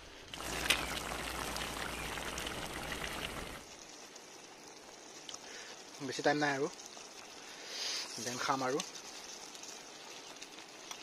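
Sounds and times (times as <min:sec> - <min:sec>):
curry bubbling and sizzling: 0:00.0 - 0:11.0.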